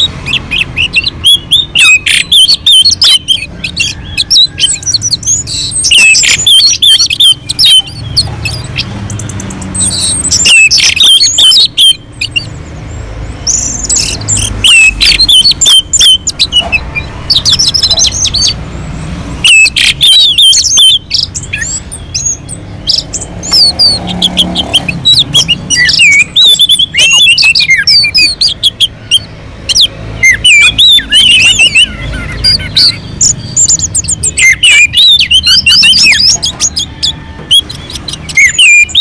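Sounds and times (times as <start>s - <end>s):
bird singing whistles and chirps: 0.0s - 18.6s, 19.3s - 39.0s.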